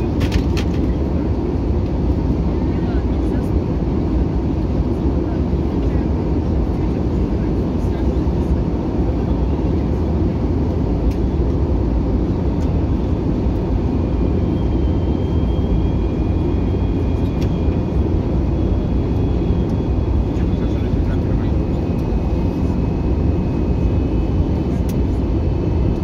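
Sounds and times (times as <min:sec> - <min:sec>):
jet engines and airflow rumble: 0:00.0 - 0:26.0.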